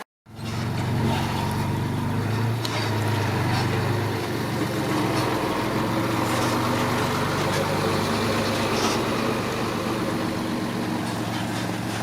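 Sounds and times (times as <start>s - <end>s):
bulldozer diesel engine running: 0.3s - 12.0s.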